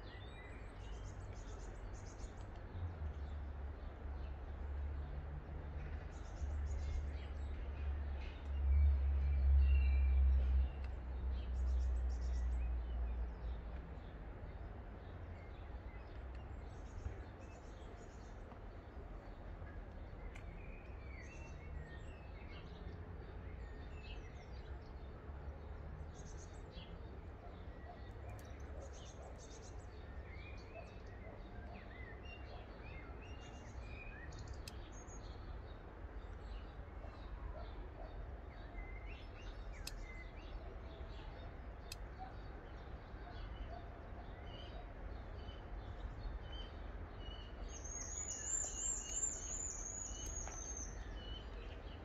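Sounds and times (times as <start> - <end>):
small birds chirping: 9.2 - 52.0.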